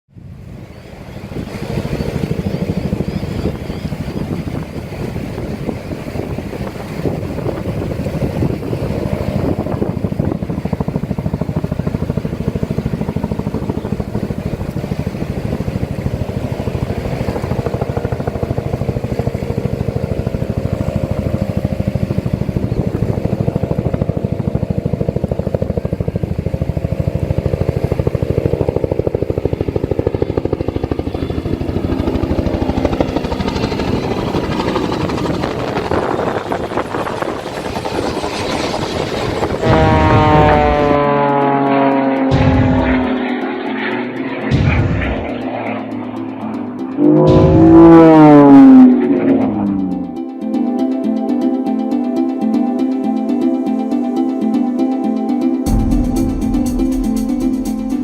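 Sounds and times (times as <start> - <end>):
engine running: 0.2 - 58.0.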